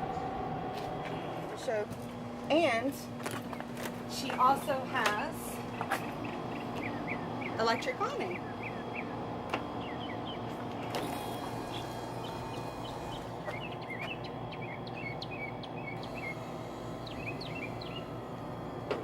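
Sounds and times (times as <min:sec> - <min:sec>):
steady low hum: 0:00.0 - 0:19.0
small birds chirping: 0:03.2 - 0:18.9.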